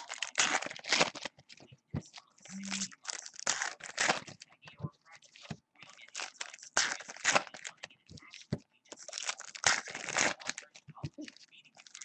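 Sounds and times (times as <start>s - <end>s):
foil wrappers crinkling and tearing: 0.0s - 1.3s, 2.1s - 4.4s, 5.2s - 12.0s.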